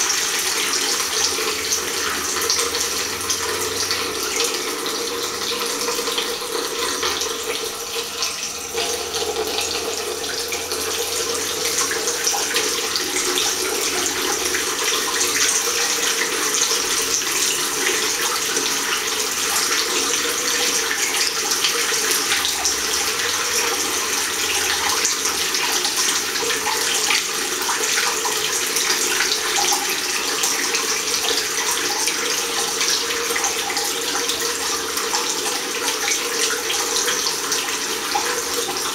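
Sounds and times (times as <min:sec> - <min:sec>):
tap water splashing into basin: 0:00.0 - 0:38.9.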